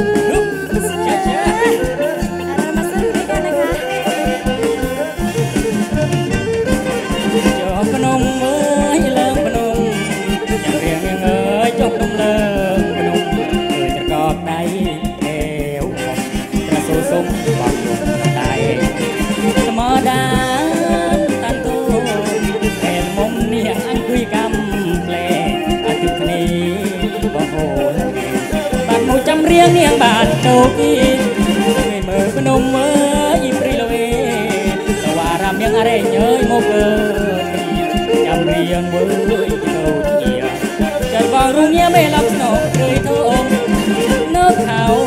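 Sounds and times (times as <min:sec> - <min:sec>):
bowed fiddle melody: 0:00.0 - 0:45.0
drum kit beat: 0:00.0 - 0:45.0
electric bass: 0:00.0 - 0:45.0
live dance band music: 0:00.0 - 0:45.0
man singing: 0:00.0 - 0:45.0.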